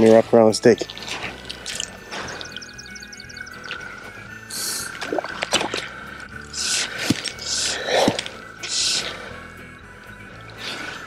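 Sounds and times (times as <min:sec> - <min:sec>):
background music with held tone: 0:00.0 - 0:11.0.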